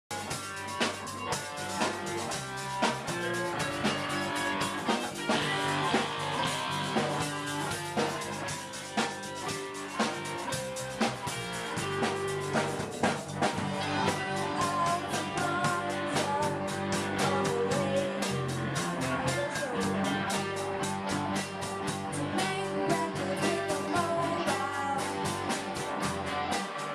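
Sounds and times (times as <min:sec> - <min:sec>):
bass guitar: 0:00.0 - 0:26.9
drum kit beat: 0:00.1 - 0:26.9
electric guitar: 0:00.1 - 0:26.9.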